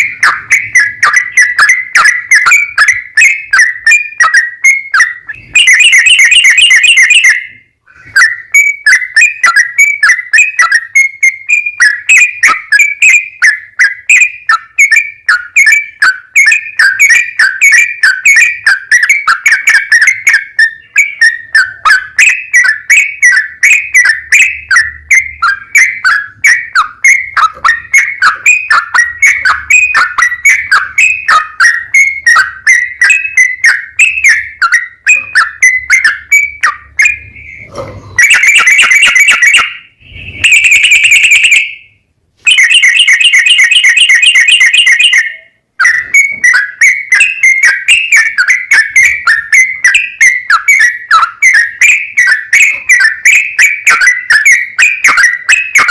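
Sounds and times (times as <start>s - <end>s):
bird chirping: 0.0s - 55.9s
bird trilling: 0.0s - 55.9s
bird whistle: 0.0s - 55.9s.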